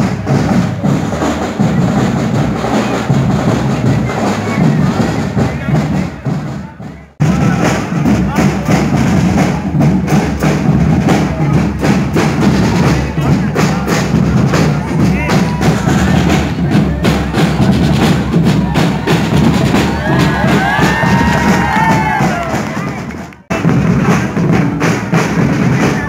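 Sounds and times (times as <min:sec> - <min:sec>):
marching drums beat: 0:00.0 - 0:26.0.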